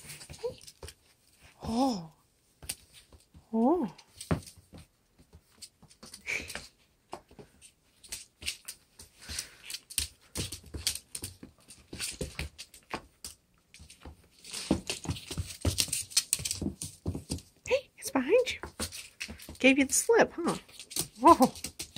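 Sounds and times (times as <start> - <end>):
dog claws clicking on hard floor: 0.0 - 1.2, 4.1 - 21.9.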